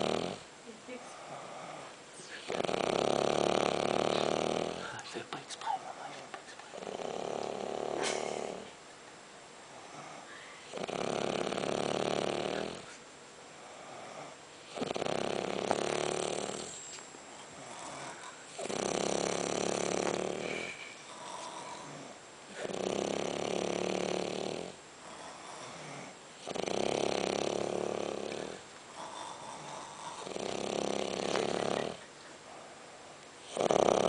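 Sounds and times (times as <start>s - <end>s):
person snoring: 0.0s - 0.5s, 1.1s - 5.0s, 5.9s - 8.8s, 9.7s - 13.0s, 13.6s - 16.8s, 17.6s - 32.0s, 33.4s - 34.0s.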